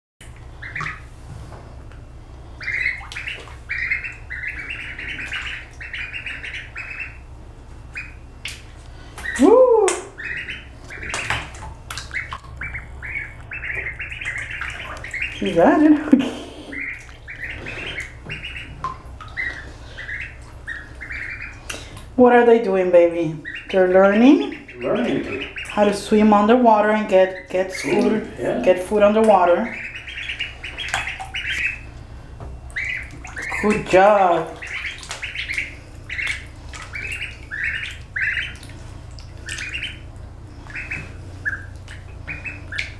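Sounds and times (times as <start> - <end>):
ducklings peeping: 0.3 - 1.2, 1.8 - 42.9.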